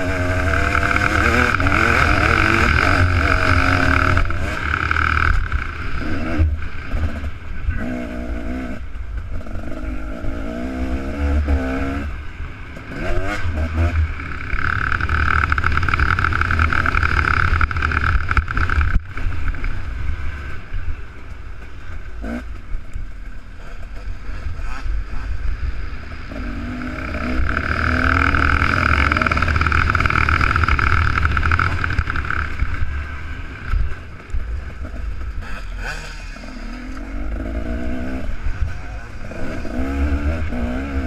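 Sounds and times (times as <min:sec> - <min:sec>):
dirt bike engine revving: 0:00.0 - 0:20.6, 0:23.6 - 0:41.0.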